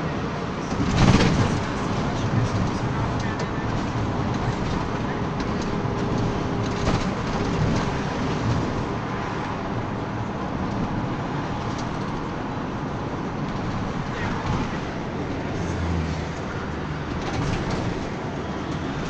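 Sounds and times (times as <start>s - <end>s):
minibus engine and road noise: 0.0s - 19.0s.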